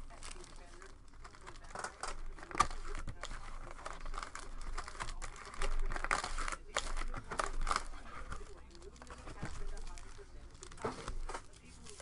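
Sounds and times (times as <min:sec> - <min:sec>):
foil packs crinkling: 0:00.0 - 0:12.0.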